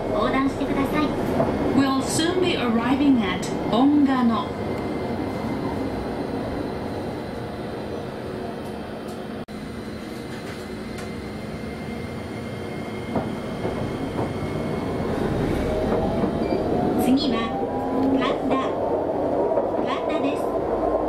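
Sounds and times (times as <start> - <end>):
tram car running hum: 0.0 - 21.0.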